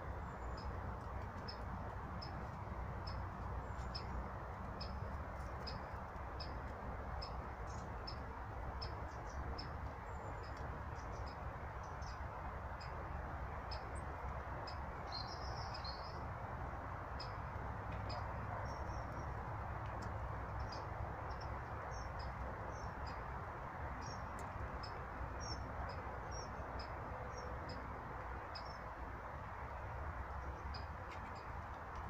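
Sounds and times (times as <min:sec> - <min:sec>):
small birds calling: 0:00.1 - 0:16.4, 0:17.0 - 0:29.0.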